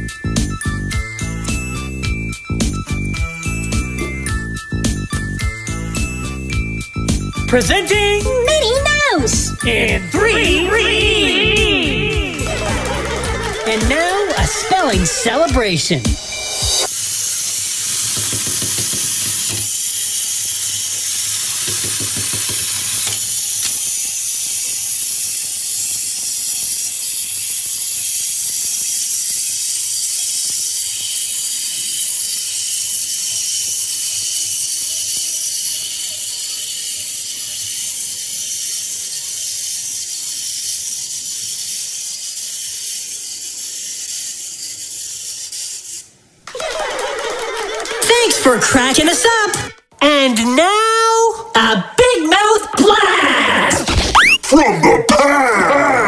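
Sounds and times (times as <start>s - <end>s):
wind-up toy motors whirring: 0.0s - 49.7s.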